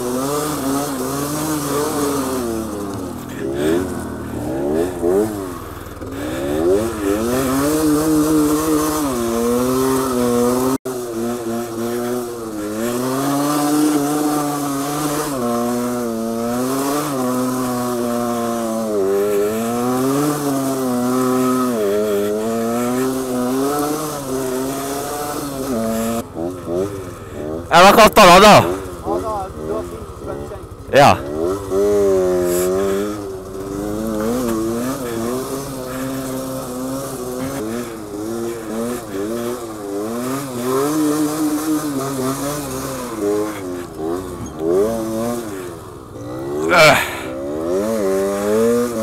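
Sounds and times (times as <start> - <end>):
small motorcycle engine revving: 0.0 - 49.0.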